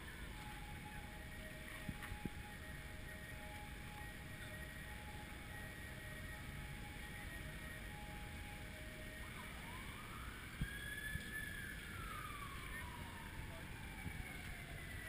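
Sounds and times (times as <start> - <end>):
city traffic rumble: 0.0 - 15.0
distant siren wailing: 0.0 - 15.0
wind: 0.0 - 15.0.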